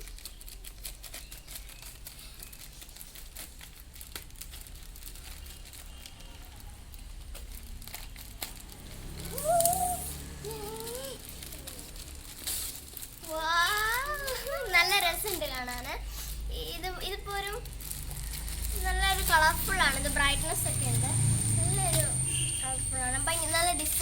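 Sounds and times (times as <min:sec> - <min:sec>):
paper ripping: 0:00.0 - 0:22.5
packaging crinkling and rustling: 0:00.0 - 0:24.0.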